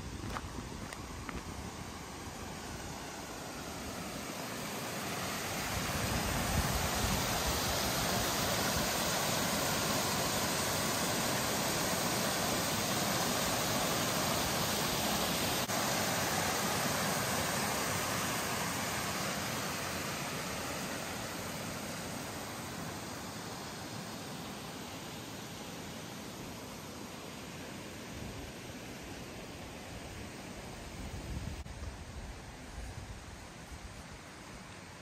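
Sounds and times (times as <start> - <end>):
rushing stream water: 0.0 - 35.0.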